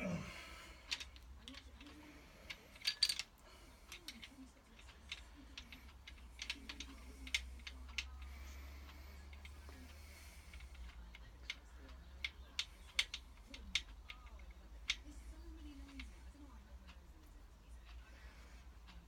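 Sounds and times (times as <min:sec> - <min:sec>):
faint low hum: 0:00.0 - 0:19.0
small metal parts clicking: 0:00.8 - 0:16.4.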